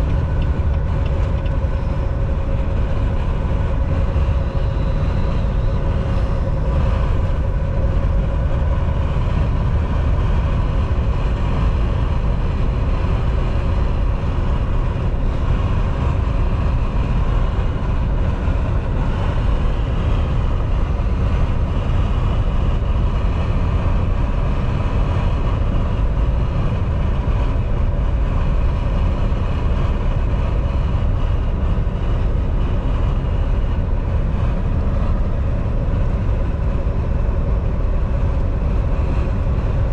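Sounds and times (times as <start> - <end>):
faint hum tones: 0.0 - 39.9
truck engine and tyre drone: 0.0 - 39.9.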